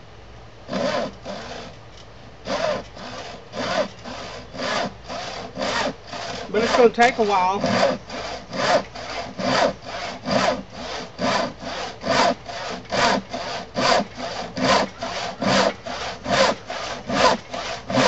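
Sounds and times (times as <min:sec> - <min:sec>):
hand saw cutting wood: 0:00.7 - 0:01.8, 0:02.4 - 0:18.0.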